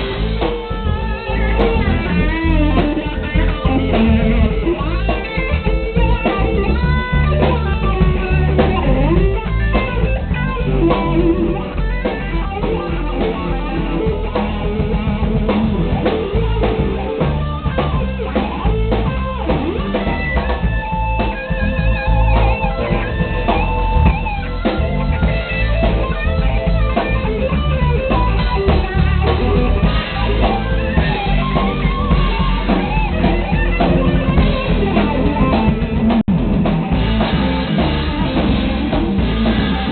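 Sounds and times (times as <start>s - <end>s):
drum kit: 0.0s - 39.9s
electric guitar lead lines: 0.0s - 39.9s.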